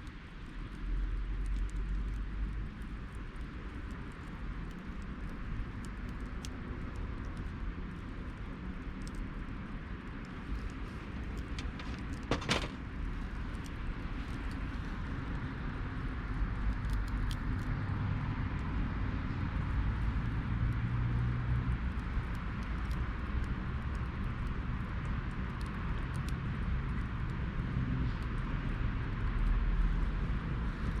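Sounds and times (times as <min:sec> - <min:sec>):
campfire crackling: 0:00.0 - 0:31.0
fire low rumble: 0:00.1 - 0:31.0.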